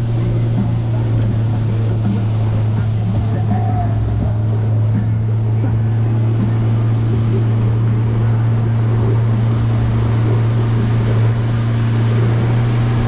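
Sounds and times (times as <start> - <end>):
outboard motor droning: 0.0 - 13.0
wind and water rushing: 0.0 - 13.0.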